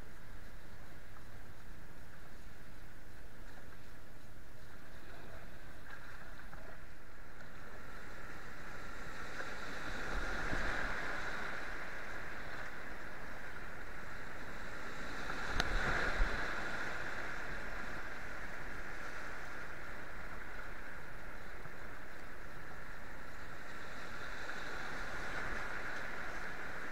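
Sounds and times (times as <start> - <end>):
rushing whitewater: 4.8 - 26.9.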